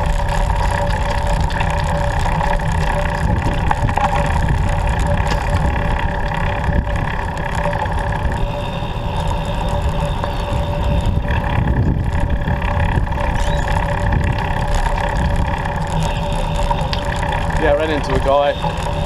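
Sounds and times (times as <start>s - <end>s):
faint steady hums: 0.0s - 19.0s
wind and road noise: 0.0s - 19.0s.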